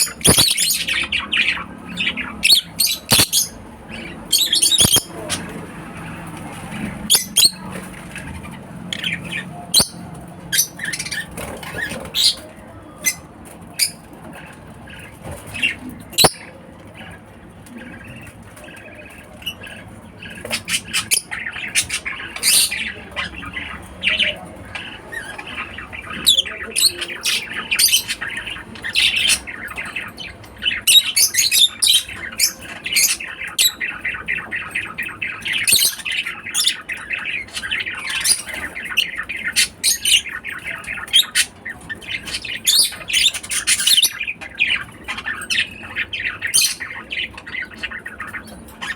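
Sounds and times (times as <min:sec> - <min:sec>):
lovebirds chattering and squawking: 0:00.0 - 0:48.9.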